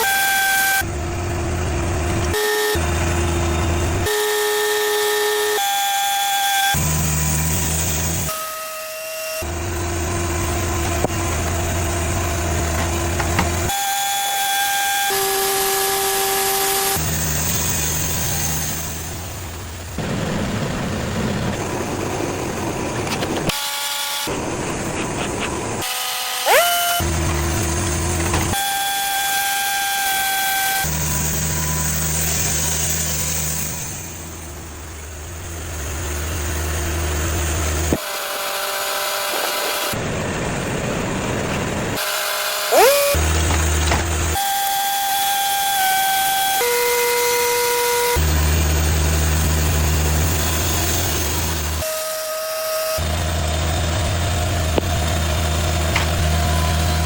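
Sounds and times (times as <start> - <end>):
blade cutting wood: 0.0 - 19.4, 22.5 - 34.5, 35.9 - 57.0
sawmill mechanical whine: 0.0 - 57.0.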